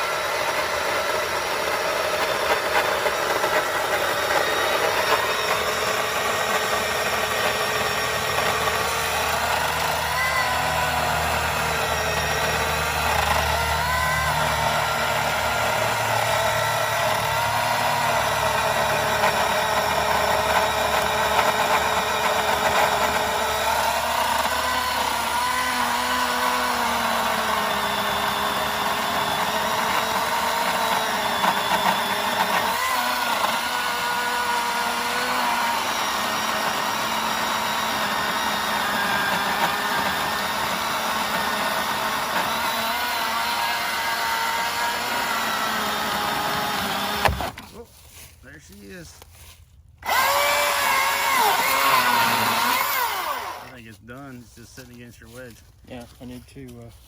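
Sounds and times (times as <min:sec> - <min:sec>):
chainsaw cutting tree trunk: 0:00.0 - 0:56.4.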